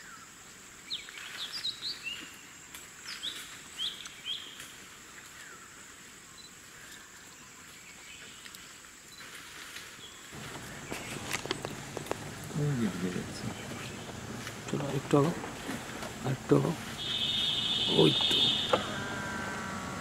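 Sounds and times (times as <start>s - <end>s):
forest birds chirping: 0.0s - 20.0s.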